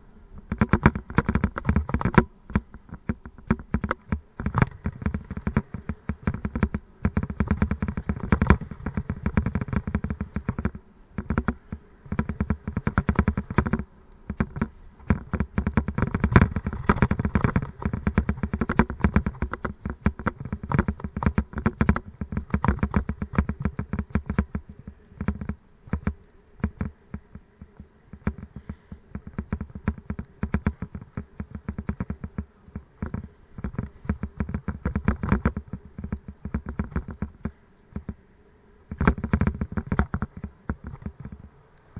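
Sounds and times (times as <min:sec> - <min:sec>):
mountain bike rattling over rough path: 0:00.0 - 0:38.2, 0:38.9 - 0:41.6.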